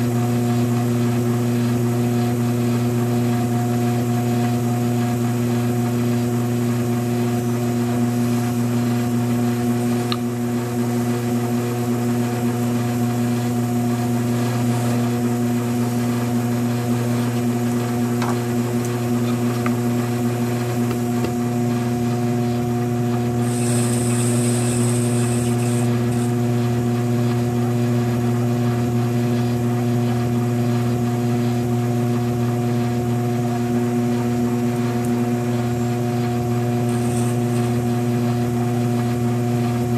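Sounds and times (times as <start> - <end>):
potter's wheel motor humming: 0.0 - 39.9.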